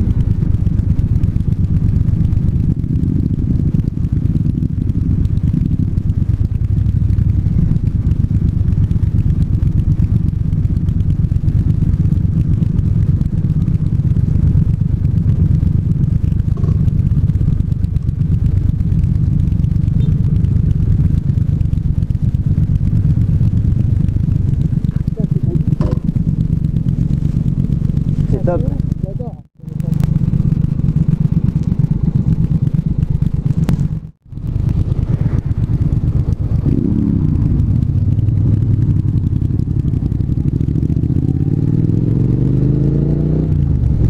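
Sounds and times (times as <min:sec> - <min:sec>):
motorcycle engine running steadily: 0:00.0 - 0:44.0.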